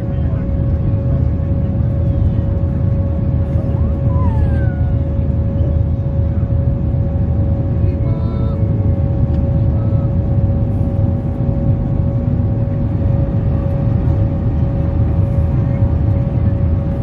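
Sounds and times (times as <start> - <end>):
airliner cabin rumble: 0.0 - 17.0
steady hum tone: 0.0 - 17.0.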